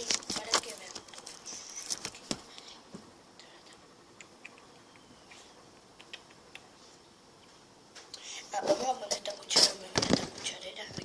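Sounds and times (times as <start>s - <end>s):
low room hiss: 0.0s - 11.0s.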